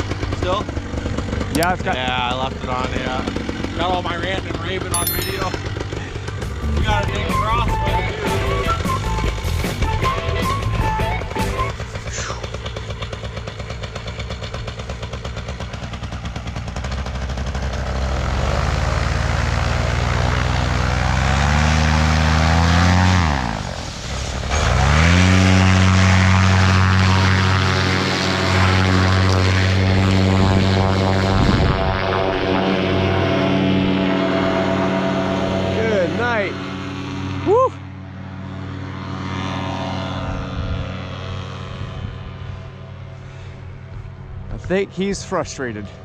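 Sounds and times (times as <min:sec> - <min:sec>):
paramotor engine and propeller revving: 0:00.0 - 0:04.9, 0:05.5 - 0:46.0.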